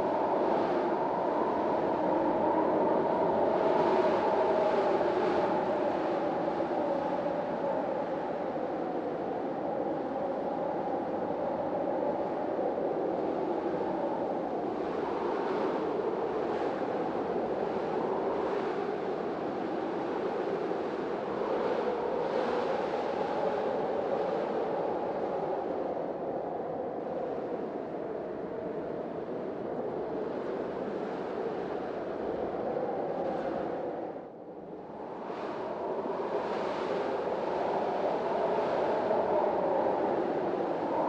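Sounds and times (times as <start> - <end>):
storm wind howling: 0.0 - 41.0.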